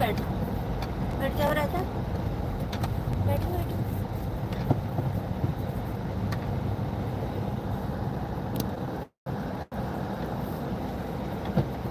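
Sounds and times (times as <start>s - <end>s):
car engine and road noise: 0.0s - 11.9s.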